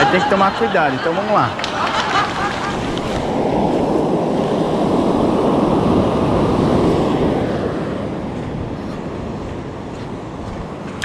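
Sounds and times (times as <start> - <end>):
surf washing up beach: 0.0 - 11.0
wind on microphone: 1.7 - 11.0.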